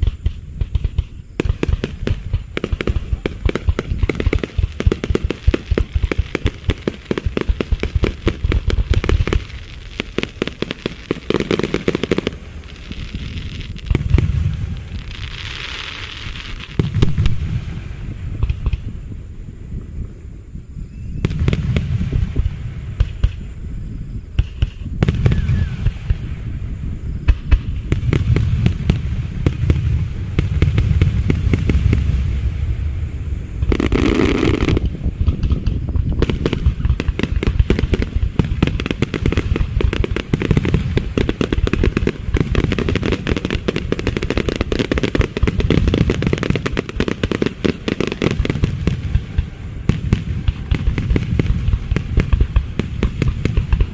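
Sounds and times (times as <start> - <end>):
fireworks booming and crackling: 0.0 - 53.9.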